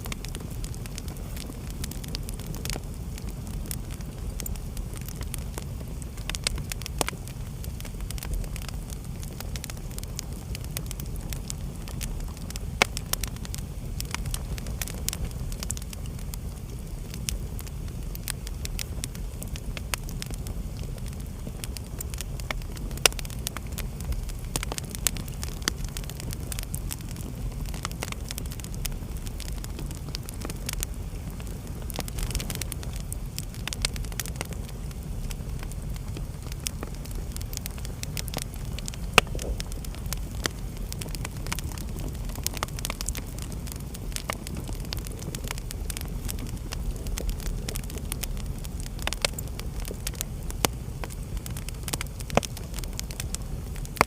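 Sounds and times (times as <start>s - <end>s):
fire crackling and popping: 0.0s - 54.0s
wood fire rumbling: 0.0s - 54.0s.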